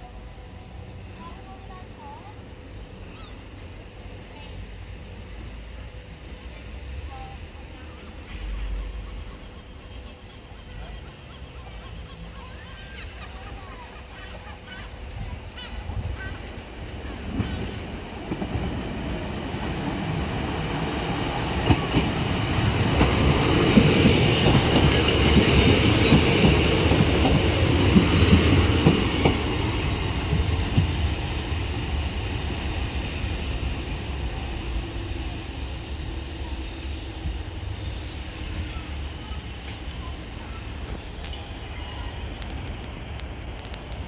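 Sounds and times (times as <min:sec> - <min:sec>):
diesel train engine rumble: 0:00.0 - 0:44.0.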